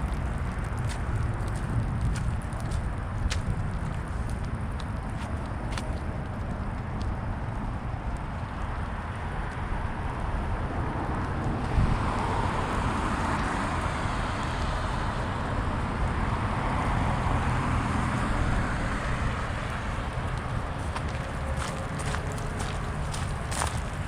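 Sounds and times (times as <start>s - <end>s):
cars passing with tyre noise: 0.0s - 24.0s.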